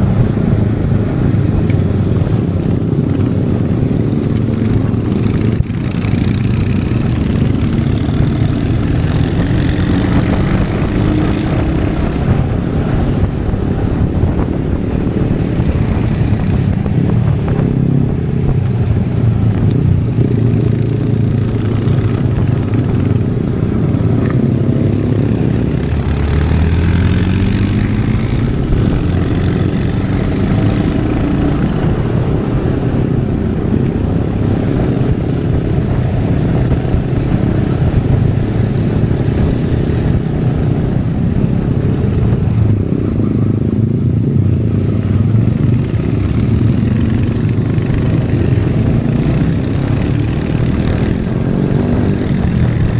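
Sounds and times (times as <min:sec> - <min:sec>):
motorcycle engine and exhaust: 0:00.0 - 0:52.9.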